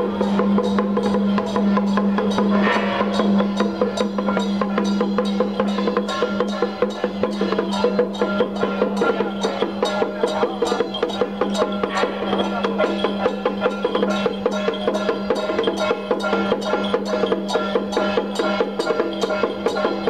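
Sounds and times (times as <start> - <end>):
drums: 0.0 - 20.0.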